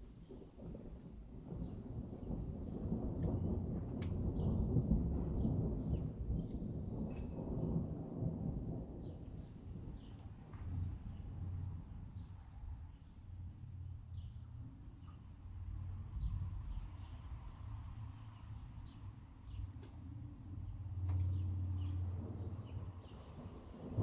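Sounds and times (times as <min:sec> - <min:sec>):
distant thunder rumbling: 0:00.0 - 0:24.0.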